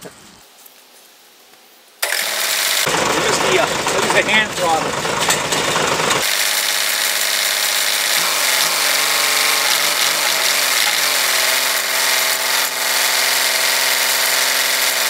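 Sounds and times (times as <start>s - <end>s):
tractor engine running: 2.0s - 15.0s.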